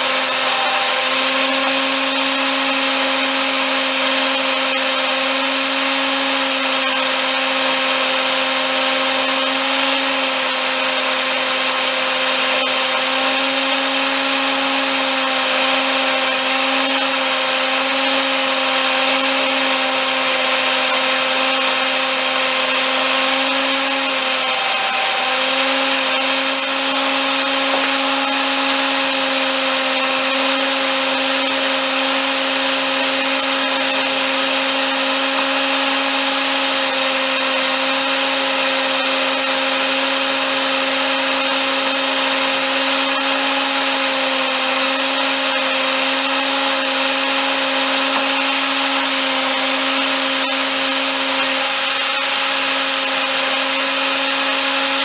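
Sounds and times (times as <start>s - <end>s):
power tool motor whine: 0.0s - 55.0s.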